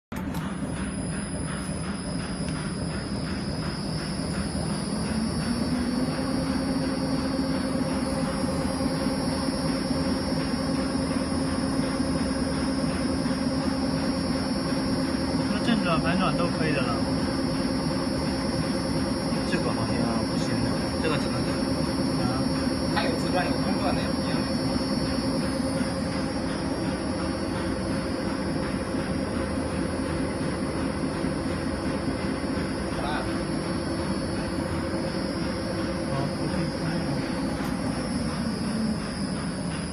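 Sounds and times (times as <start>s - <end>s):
ball mill drive whine: 0.1s - 39.9s
mechanical rumble: 0.1s - 39.9s.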